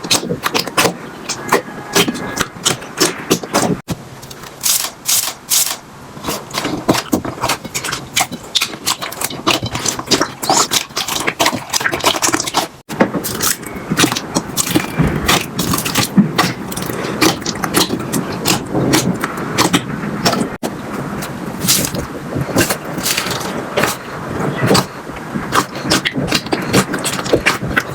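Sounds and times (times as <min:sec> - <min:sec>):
slime squelching: 0:00.0 - 0:27.9.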